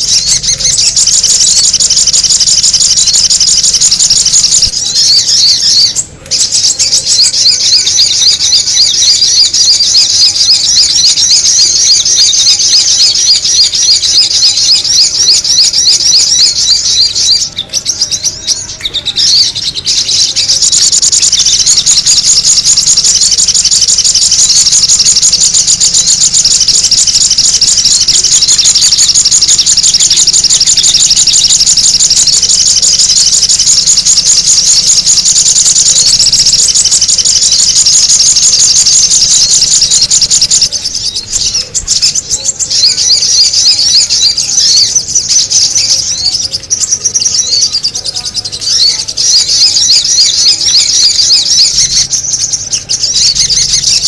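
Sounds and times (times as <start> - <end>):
bird lure chattering chirps: 0.0 - 54.0.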